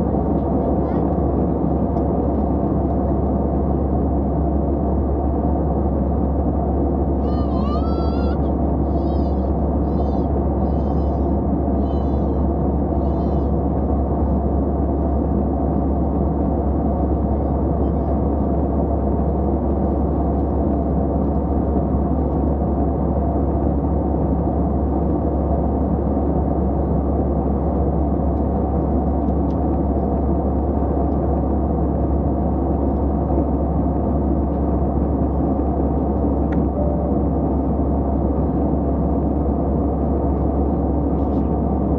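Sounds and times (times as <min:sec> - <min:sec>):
jet airliner cabin rumble: 0:00.0 - 0:41.9.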